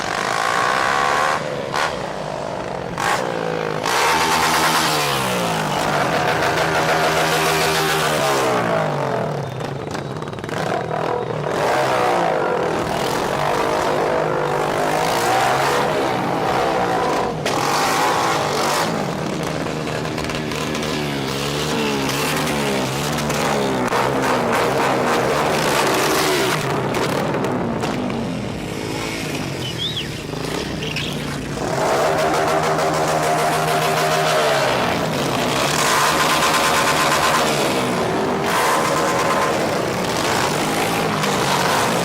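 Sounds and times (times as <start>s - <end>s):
car engines revving: 0.0s - 42.0s.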